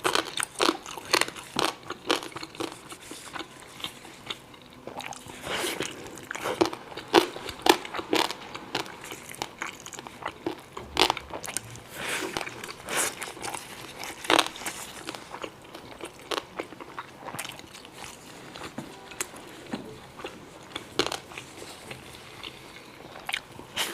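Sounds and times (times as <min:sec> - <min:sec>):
person biting and chewing: 0:00.0 - 0:19.3, 0:20.2 - 0:23.9
crisp crackly crunches: 0:00.0 - 0:19.4.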